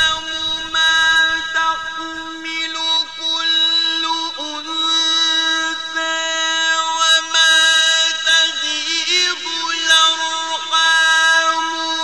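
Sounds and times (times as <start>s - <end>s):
man reciting melismatic chant: 0.0s - 12.0s.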